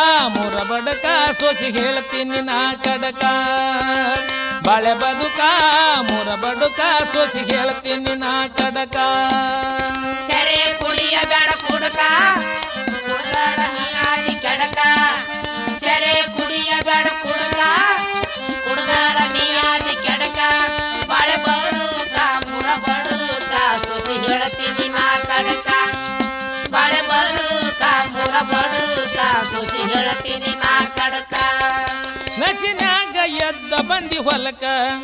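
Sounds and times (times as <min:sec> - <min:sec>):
tabla rhythm: 0:00.0 - 0:35.0.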